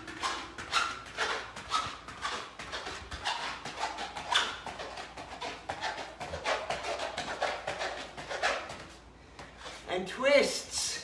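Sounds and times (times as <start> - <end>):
feet tapping on exercise mat: 0.0 - 9.9.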